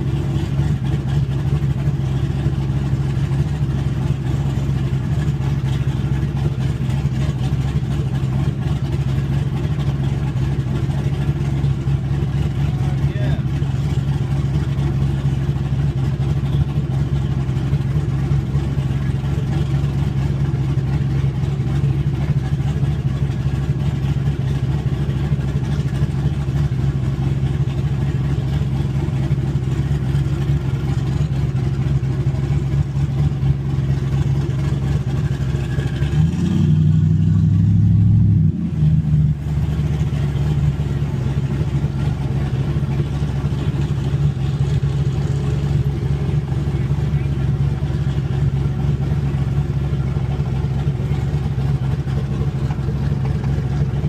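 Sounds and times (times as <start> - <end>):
car engine and exhaust drone: 0.0 - 54.0.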